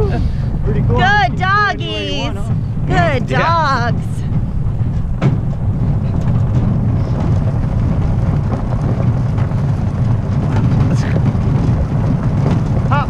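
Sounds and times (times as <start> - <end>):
wheeled rig rolling over gravel: 0.0 - 13.0.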